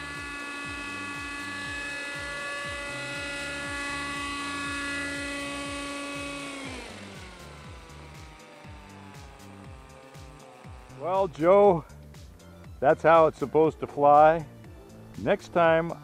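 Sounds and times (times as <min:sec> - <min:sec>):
model helicopter engine whine: 0:00.0 - 0:16.0.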